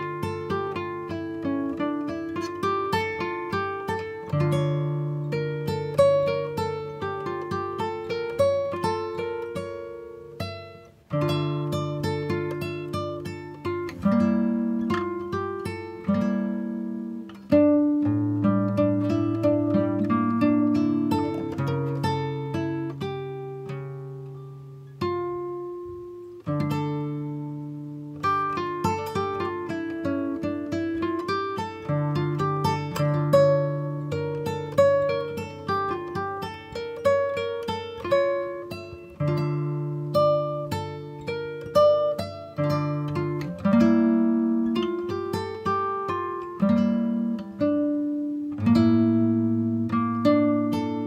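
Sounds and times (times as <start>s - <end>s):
acoustic guitar chords: 0.0s - 51.0s.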